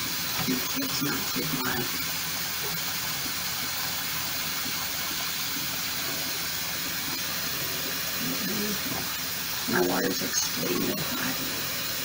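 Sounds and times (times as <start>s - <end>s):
faucet water pouring into cup: 0.0s - 12.0s.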